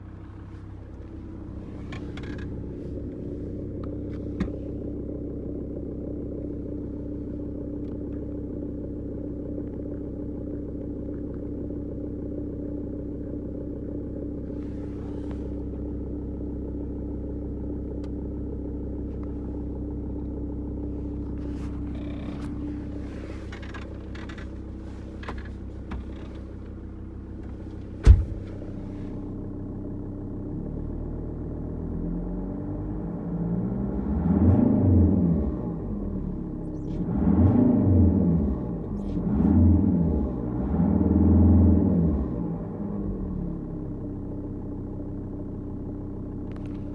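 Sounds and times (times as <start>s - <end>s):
diesel engine rumbling and clattering: 0.0s - 46.9s.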